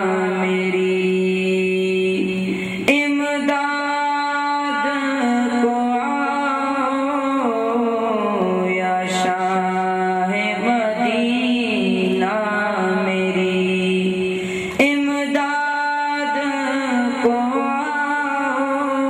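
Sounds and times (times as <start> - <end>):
man singing through a microphone: 0.0 - 19.0.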